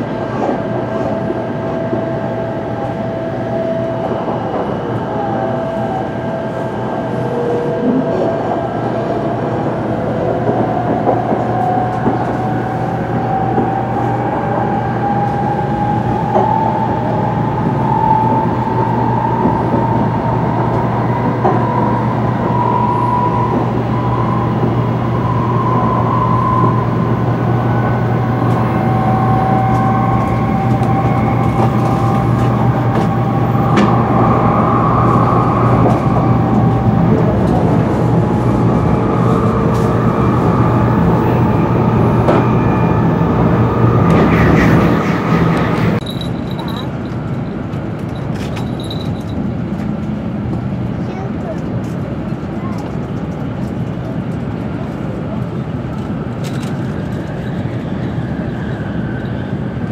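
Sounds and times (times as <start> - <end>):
train low hum and rumble: 0.0 - 59.9.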